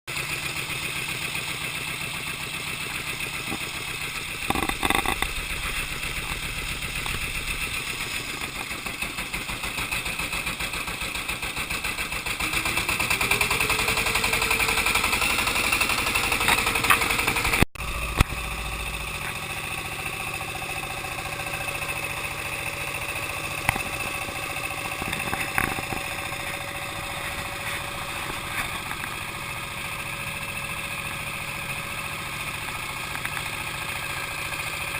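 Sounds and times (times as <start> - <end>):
boat engine droning: 0.1 - 34.9.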